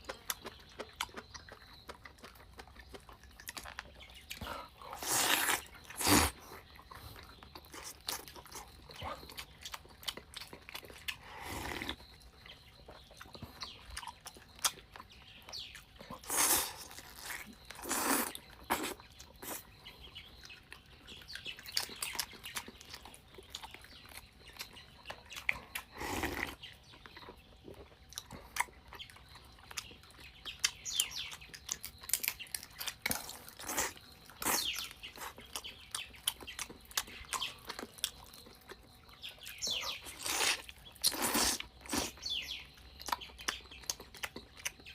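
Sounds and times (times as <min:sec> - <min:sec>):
person chewing: 0:00.0 - 0:42.4, 0:43.0 - 0:44.9.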